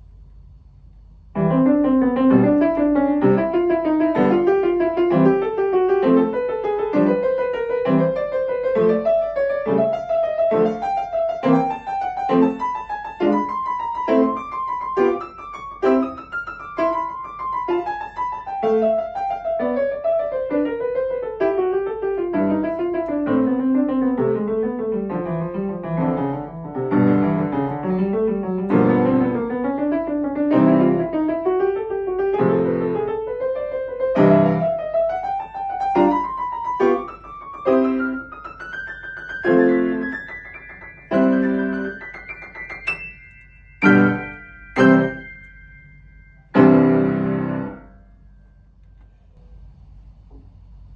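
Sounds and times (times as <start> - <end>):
solo piano playing: 1.3 - 48.3.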